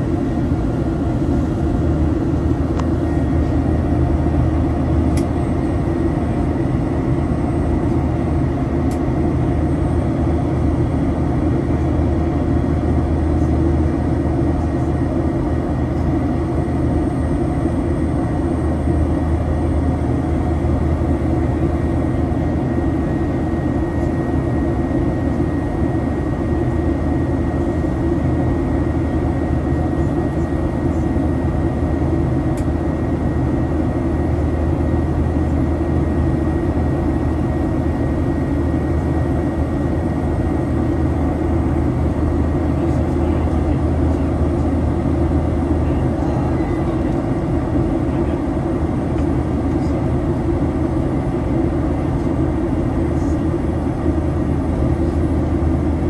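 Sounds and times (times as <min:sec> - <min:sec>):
airplane cabin drone: 0:00.0 - 0:56.0
faint whine: 0:00.0 - 0:56.0.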